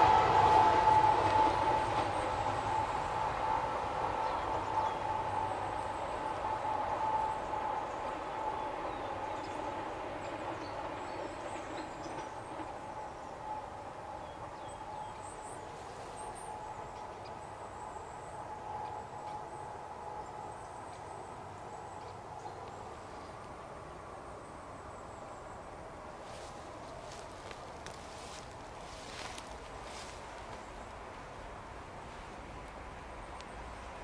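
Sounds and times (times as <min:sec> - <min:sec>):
electric train hum and rumble: 0:00.0 - 0:34.0.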